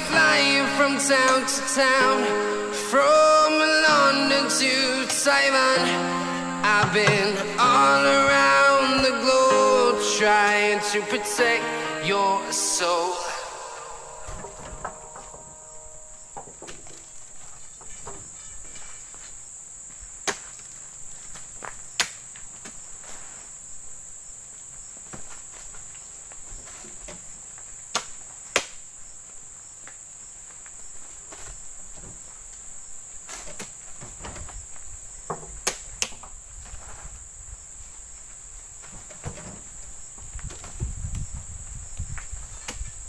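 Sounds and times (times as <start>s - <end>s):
insects droning: 0.0s - 43.0s.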